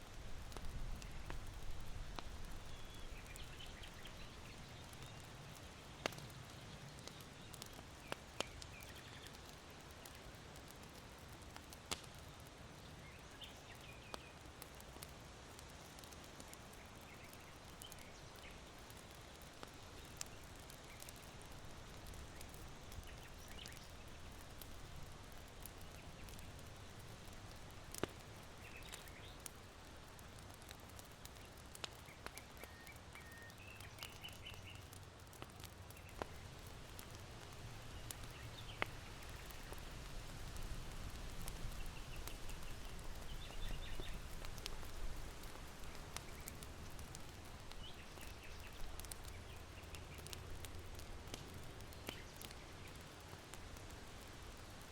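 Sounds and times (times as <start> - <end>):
charcoal fire popping: 0.0 - 54.9
low steady wind: 0.0 - 54.9
small birds chirping: 0.5 - 40.6, 41.2 - 53.5.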